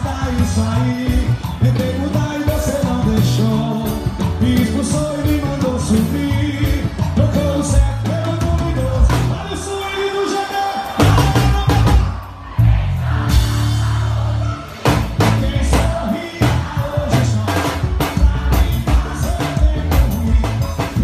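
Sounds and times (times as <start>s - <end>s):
bass guitar: 0.0s - 10.1s, 10.8s - 21.0s
man singing: 0.0s - 12.3s, 13.9s - 21.0s
drum kit: 0.0s - 21.0s.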